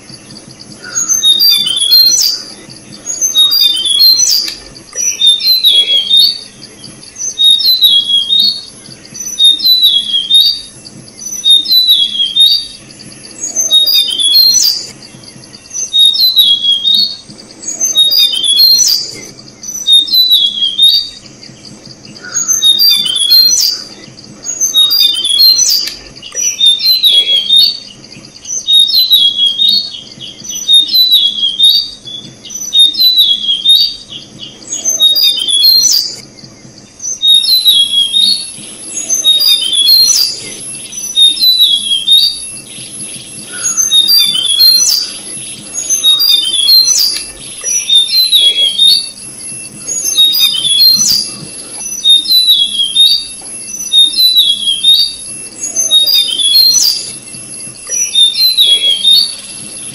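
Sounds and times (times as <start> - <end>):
bird chirping: 0.0 - 59.9
high-pitched hum: 0.0 - 59.9.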